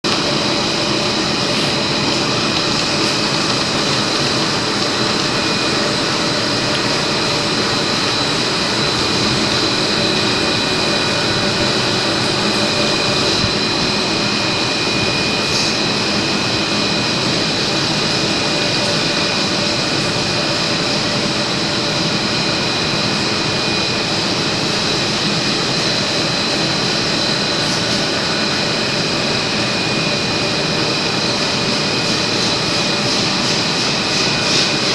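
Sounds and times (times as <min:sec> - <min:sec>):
high machine whine: 0:00.0 - 0:34.9
machine running: 0:00.0 - 0:34.9.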